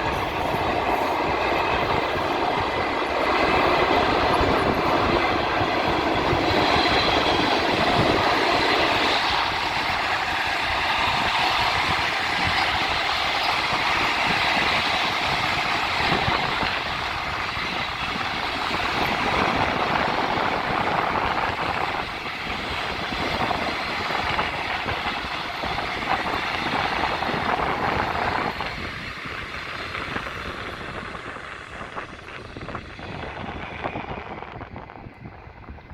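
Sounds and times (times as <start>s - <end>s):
train wheels rushing on rails: 0.0s - 35.9s.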